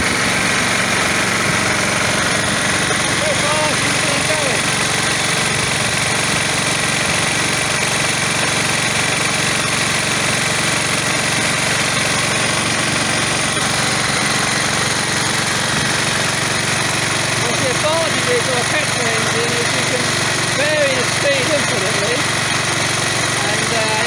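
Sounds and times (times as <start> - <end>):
grain auger moving grain: 0.0 - 24.0
petrol engine running under load: 0.0 - 24.0.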